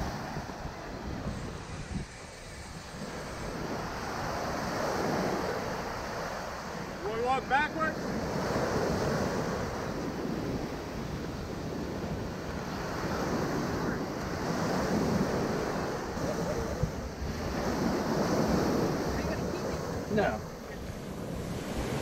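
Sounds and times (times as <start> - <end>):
ocean surf breaking on beach: 0.0 - 22.0
wind buffeting microphone: 0.0 - 22.0.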